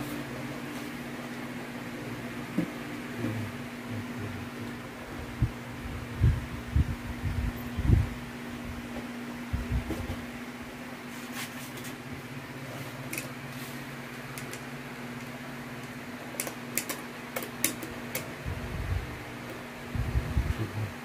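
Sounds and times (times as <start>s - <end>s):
electric fan humming: 0.0s - 21.0s.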